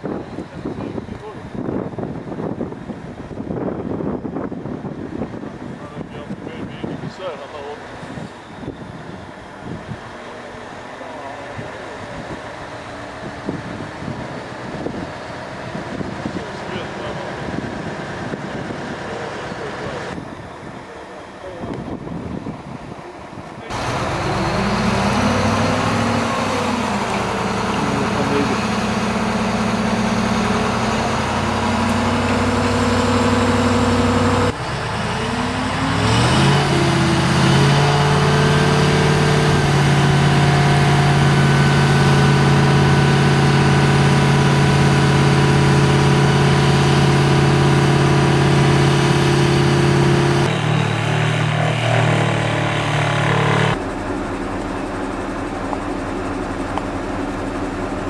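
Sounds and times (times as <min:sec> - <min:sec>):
diesel engine running and revving: 0:00.0 - 0:58.0.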